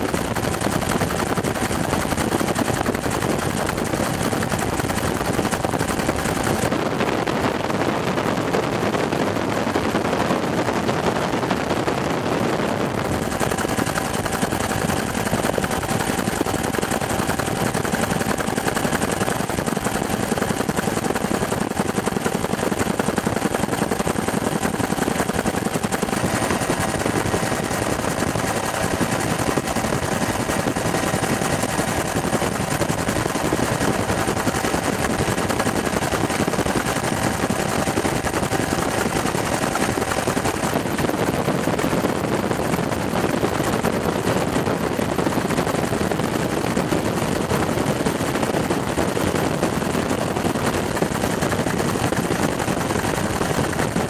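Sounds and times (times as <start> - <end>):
helicopter rotor chop: 0.0 - 54.0.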